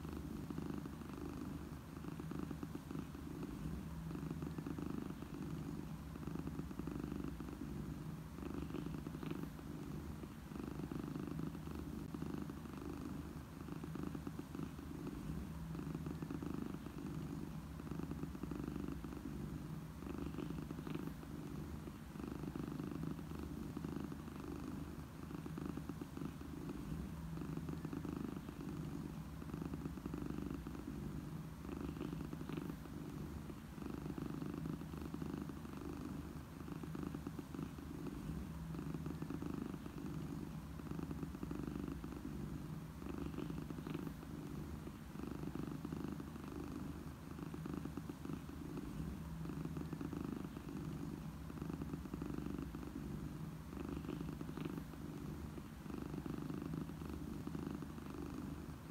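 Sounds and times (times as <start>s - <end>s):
cat purring: 0.0s - 58.9s.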